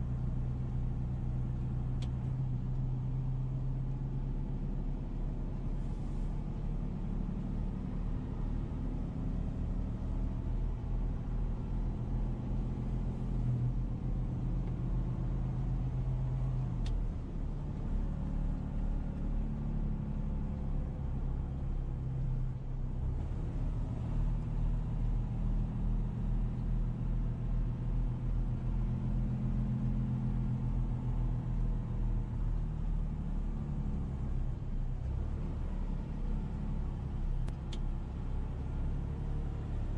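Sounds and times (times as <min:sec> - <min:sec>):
road rumble: 0:00.0 - 0:39.9
vehicle engine hum: 0:00.0 - 0:39.9.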